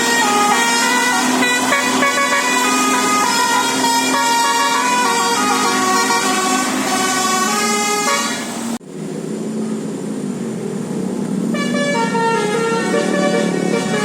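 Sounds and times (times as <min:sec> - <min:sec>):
bus horn playing a tune: 0:00.0 - 0:08.7, 0:11.5 - 0:14.0.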